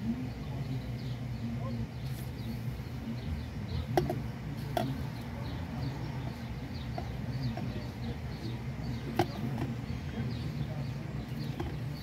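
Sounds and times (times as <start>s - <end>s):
birds chirping: 0.0s - 12.0s
car engine idling: 0.0s - 12.0s.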